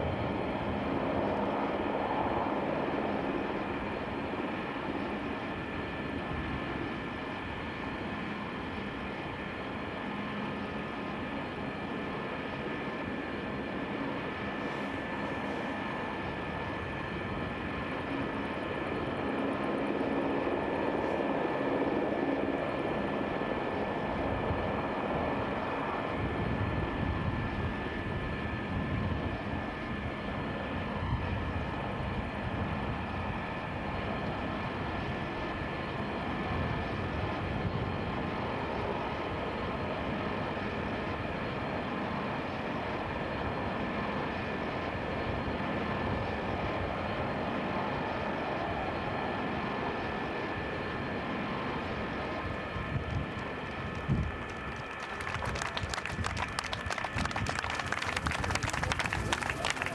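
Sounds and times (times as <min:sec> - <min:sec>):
jet engine rumble: 0:00.0 - 0:41.5, 0:44.3 - 0:59.9
high turbine whine: 0:00.0 - 0:59.9.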